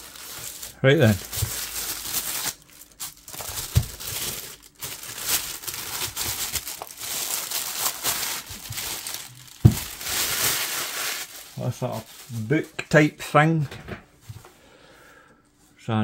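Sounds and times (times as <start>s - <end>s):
packaging crinkling: 0.0s - 13.1s.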